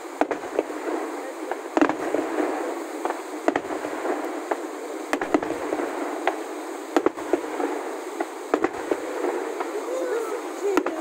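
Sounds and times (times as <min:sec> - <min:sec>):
fireworks bangs: 0:00.0 - 0:11.0
steady rushing noise: 0:00.0 - 0:11.0.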